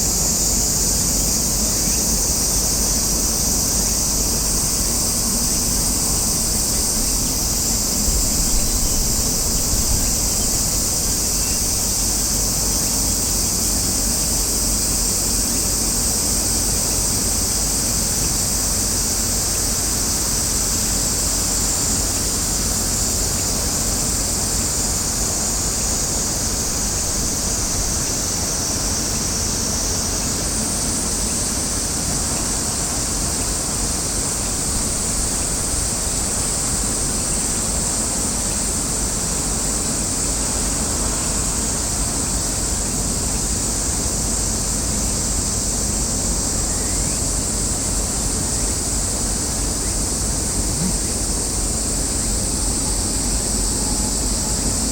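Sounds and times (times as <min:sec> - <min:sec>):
high-pitched hiss: 0:00.0 - 0:54.9.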